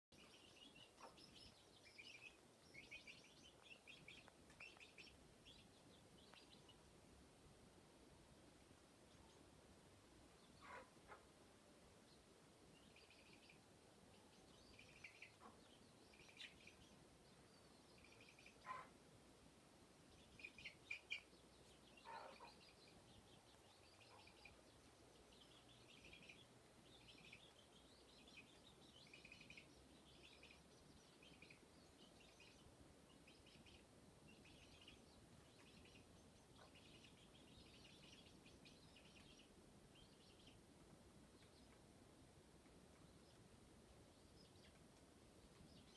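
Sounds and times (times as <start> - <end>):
chicken chirping trills: 0.1 - 6.9, 10.3 - 11.4, 12.0 - 19.0, 20.0 - 45.9
low background hiss: 0.1 - 45.9.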